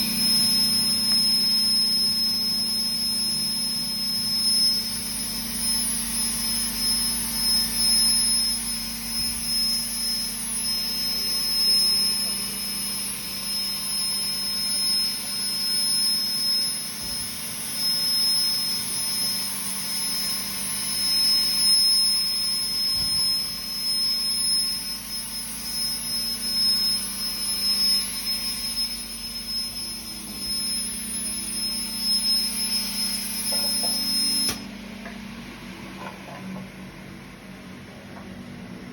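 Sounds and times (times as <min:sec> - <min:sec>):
industrial machinery whining: 0:00.0 - 0:38.9.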